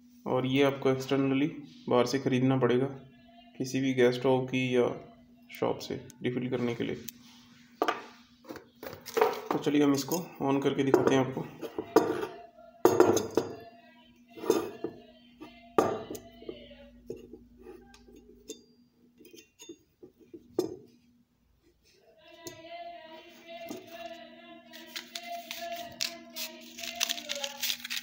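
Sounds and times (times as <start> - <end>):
faint background tune: 0.0 - 28.0.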